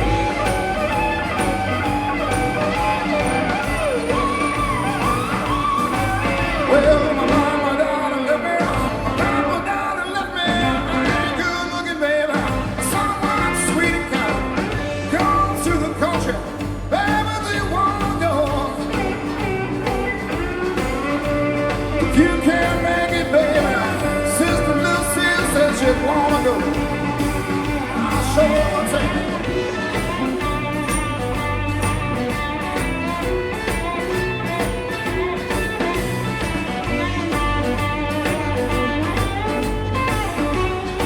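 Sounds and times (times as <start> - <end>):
gliding melodic lead line: 0.0 - 7.6, 12.7 - 41.0
bass guitar: 0.0 - 41.0
drums: 0.0 - 41.0
live rock band playing: 0.0 - 41.0.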